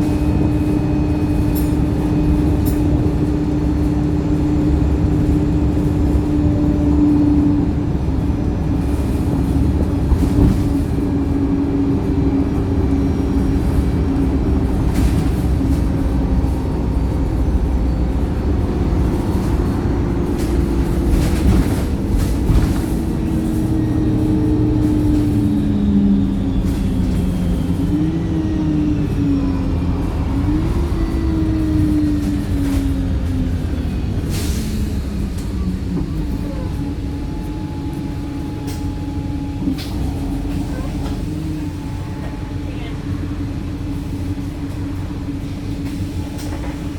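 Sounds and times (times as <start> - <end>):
bus diesel engine droning: 0.0 - 46.9
road rumble: 0.0 - 46.9.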